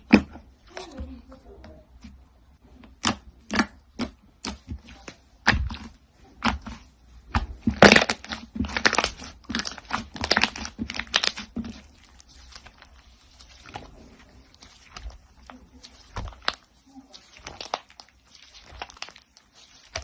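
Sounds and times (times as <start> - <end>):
crunchy slime crackling: 2.6 - 20.0.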